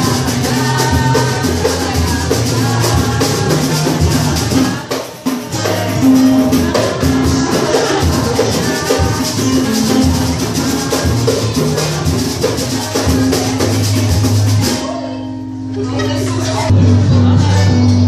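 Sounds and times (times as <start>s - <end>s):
samba drums and shakers: 0.0s - 15.0s.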